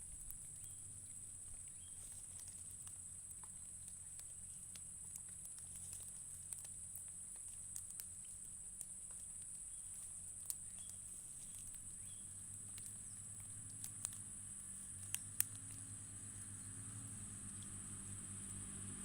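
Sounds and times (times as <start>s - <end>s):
small clicks and taps: 0.2s - 16.5s.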